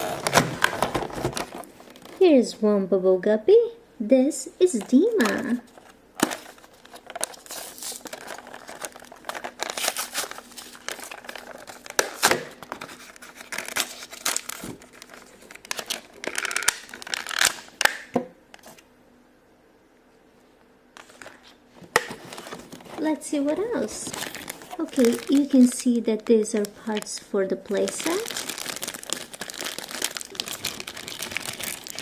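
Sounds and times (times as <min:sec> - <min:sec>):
packaging crinkling and tearing: 0:00.0 - 0:02.2, 0:04.8 - 0:18.8, 0:22.0 - 0:32.0.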